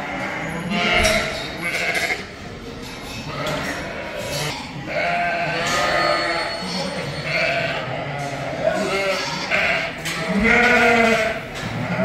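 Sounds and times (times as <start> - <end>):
sheep and lambs bleating: 0.0 - 2.3, 3.2 - 12.0.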